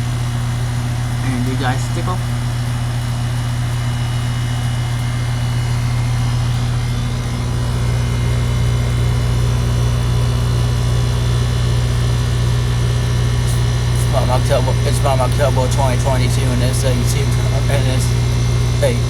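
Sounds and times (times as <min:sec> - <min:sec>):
condenser fan: 0:00.0 - 0:19.0
heat pump compressor hum: 0:00.0 - 0:19.0.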